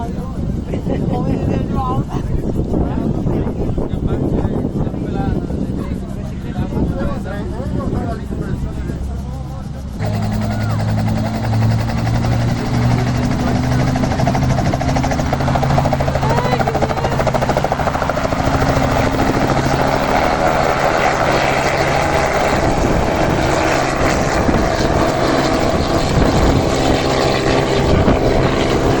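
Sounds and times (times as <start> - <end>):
helicopter engine drone: 0.0 - 29.0
helicopter rotor blades chopping: 0.0 - 29.0.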